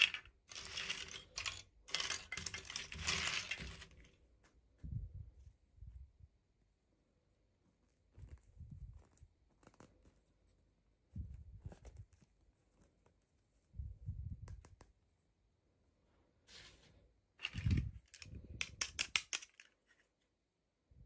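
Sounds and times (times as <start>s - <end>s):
faint handling noises: 0.0s - 20.4s.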